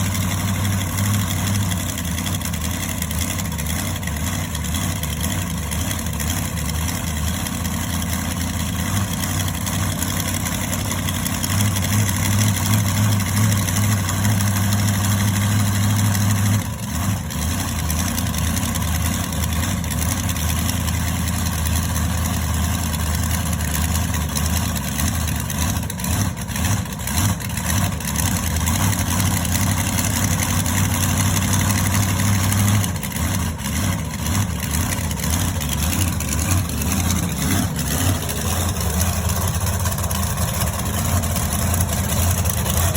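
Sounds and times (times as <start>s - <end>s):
monster truck engine idling: 0.0s - 42.9s.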